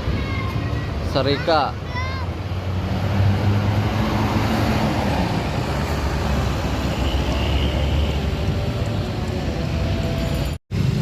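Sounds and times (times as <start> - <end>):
bus engine rumbling: 0.0 - 11.0
tyre and traffic noise: 0.0 - 11.0.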